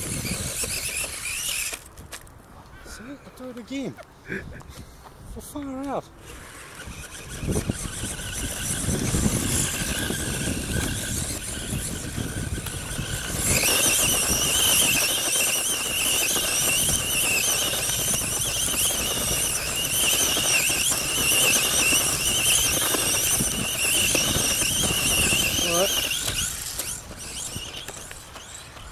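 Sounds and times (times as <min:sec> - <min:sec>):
rc car motor whining: 0:00.0 - 0:02.2, 0:06.1 - 0:28.9
tyres scrabbling in gravel: 0:00.0 - 0:04.0, 0:05.4 - 0:28.9.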